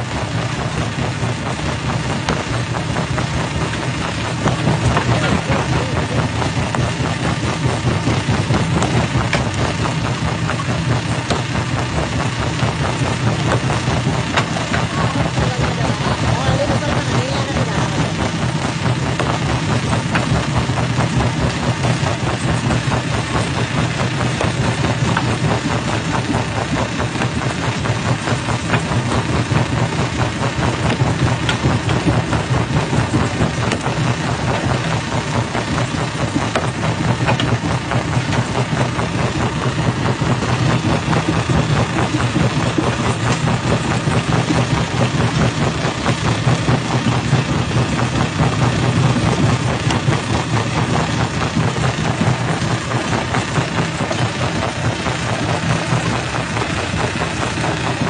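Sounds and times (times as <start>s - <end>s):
rock crusher machine drone: 0.0s - 58.0s.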